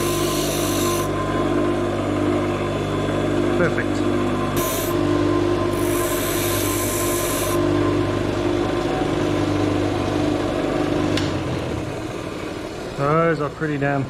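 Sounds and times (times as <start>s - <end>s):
bench grinder motor hum: 0.0s - 3.5s, 4.1s - 13.0s.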